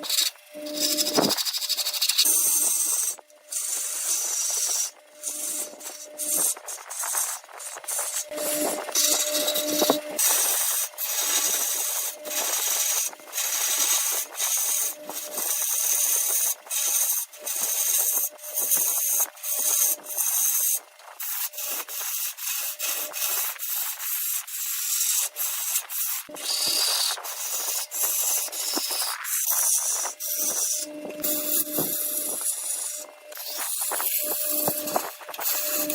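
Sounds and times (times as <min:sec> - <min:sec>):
tool rasping on spinning wood: 0:00.0 - 0:35.9.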